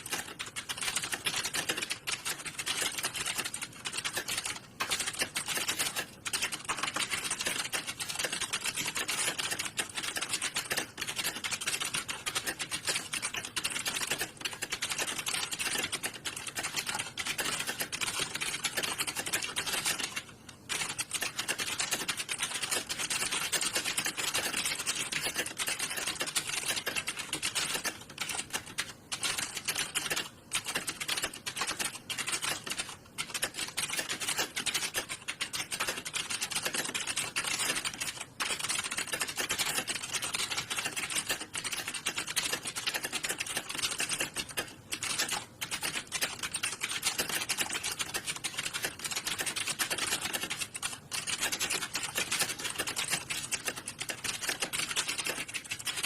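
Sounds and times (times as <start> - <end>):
many keyboards typing: 0.0 - 56.0.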